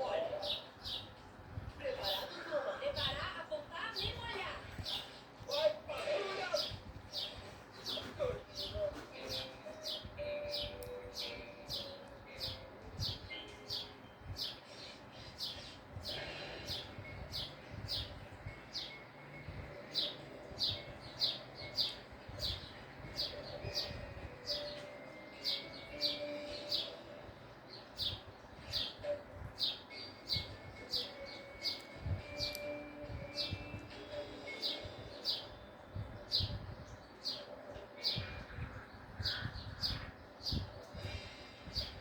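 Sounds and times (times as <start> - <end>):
bird chirping: 6.6 - 42.0.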